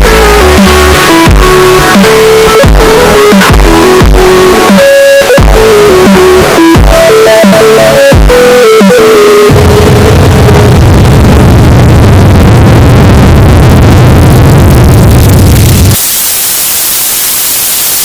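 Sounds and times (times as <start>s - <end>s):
harsh distorted noise: 0.0s - 18.0s.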